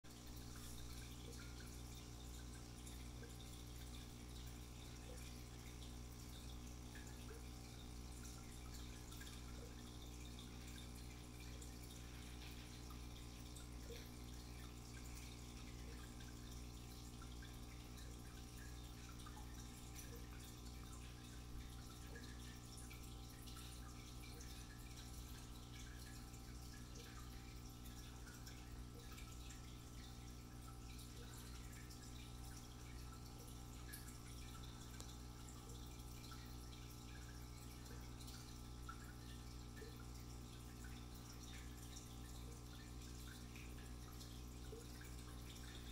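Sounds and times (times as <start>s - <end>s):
tank filter humming: 0.1s - 45.9s
water trickling and dripping: 0.1s - 45.9s.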